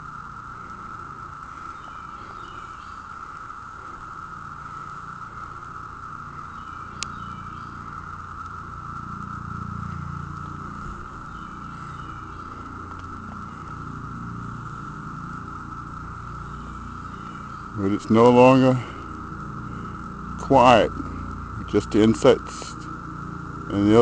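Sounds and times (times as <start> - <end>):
high-pitched drone: 0.0 - 24.0
low rumble: 0.0 - 24.0.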